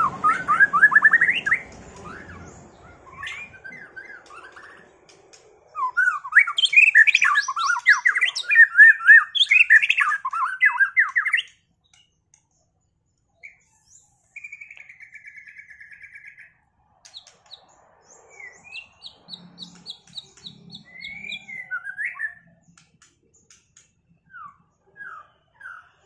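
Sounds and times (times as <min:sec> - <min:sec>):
songbird whistling and trilling: 0:00.0 - 0:05.1, 0:05.7 - 0:12.0, 0:13.3 - 0:22.8, 0:24.2 - 0:26.0.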